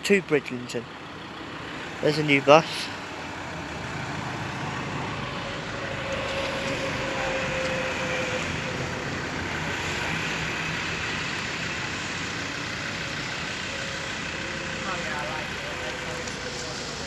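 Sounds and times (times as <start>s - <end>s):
bus engine: 0.0s - 17.0s
road traffic noise: 0.0s - 17.0s.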